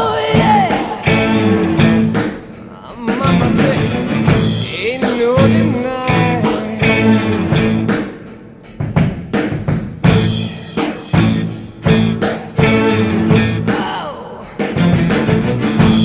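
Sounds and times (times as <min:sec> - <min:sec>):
drum hits: 0:00.0 - 0:16.0
rock song with singing: 0:00.0 - 0:16.0.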